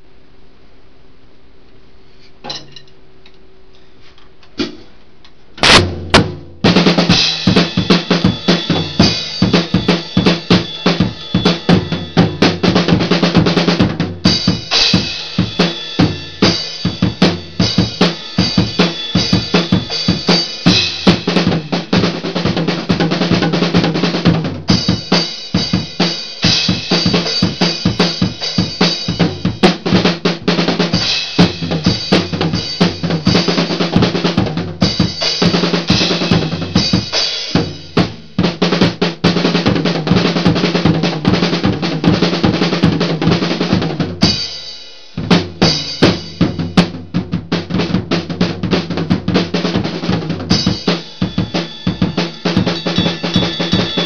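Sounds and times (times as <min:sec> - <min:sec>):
drum kit playing: 0:05.6 - 0:54.0.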